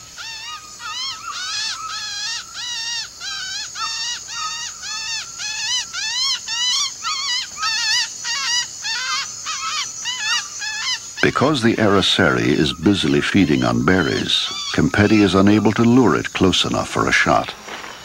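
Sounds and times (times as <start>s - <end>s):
squeaky mimicked bird calls: 0.0s - 16.8s.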